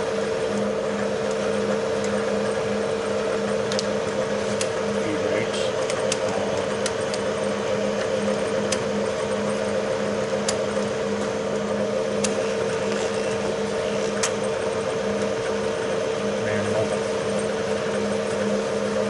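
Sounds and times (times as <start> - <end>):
milling machine whirring hum: 0.0 - 19.0.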